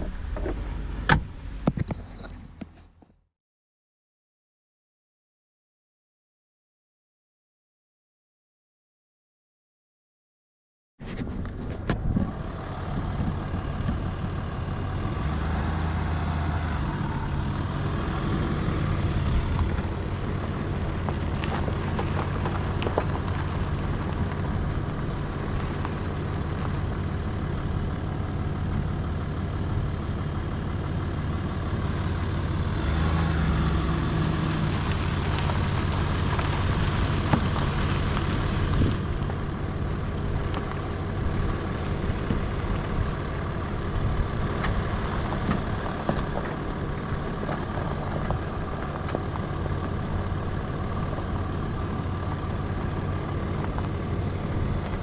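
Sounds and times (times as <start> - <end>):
car engine running: 0.0 - 3.2, 11.0 - 55.0.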